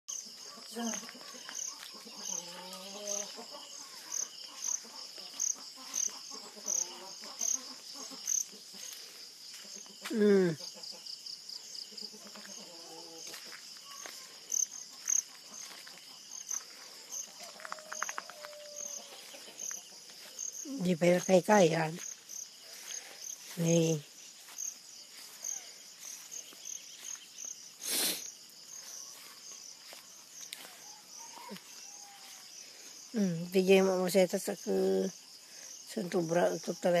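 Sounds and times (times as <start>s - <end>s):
insect chirps: 0.1s - 37.0s
insects trilling: 0.1s - 37.0s.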